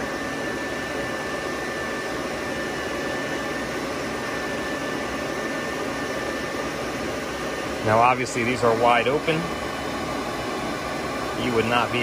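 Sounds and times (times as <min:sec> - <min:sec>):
duct fan air rush with whine: 0:00.0 - 0:12.0.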